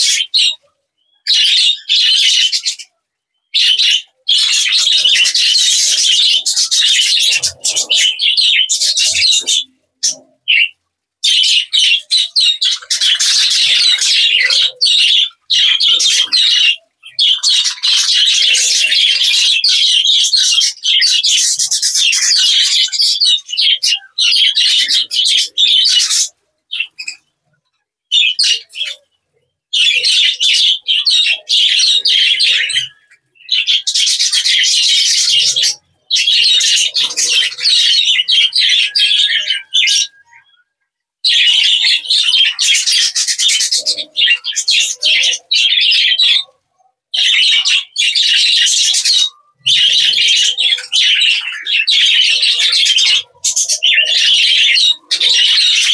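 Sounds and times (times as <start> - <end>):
budgerigars chattering and chirping: 0.0 - 0.6, 1.3 - 2.9, 3.6 - 27.3, 28.1 - 29.1, 29.7 - 40.6, 41.3 - 46.6, 47.2 - 55.9.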